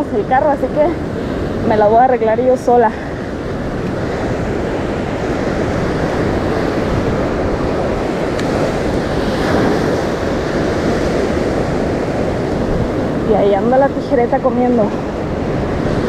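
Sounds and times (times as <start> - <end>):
ocean surf on beach: 0.0 - 16.0
wind buffeting microphone: 0.0 - 16.0.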